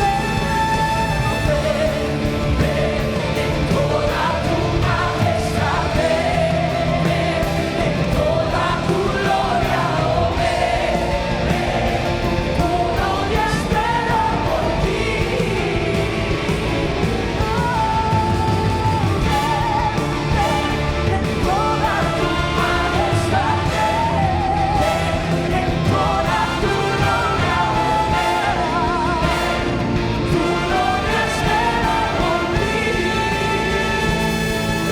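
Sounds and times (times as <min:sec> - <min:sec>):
person singing: 0:00.0 - 0:34.9
rock-style band music: 0:00.0 - 0:34.9.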